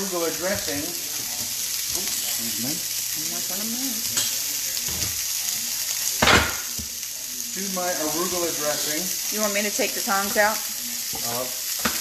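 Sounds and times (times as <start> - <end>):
fish searing in a skillet: 0.0 - 12.0.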